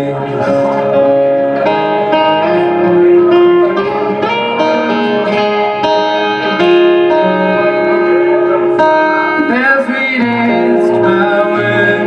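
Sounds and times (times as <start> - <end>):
guitar playing plucked notes: 0.0 - 12.0.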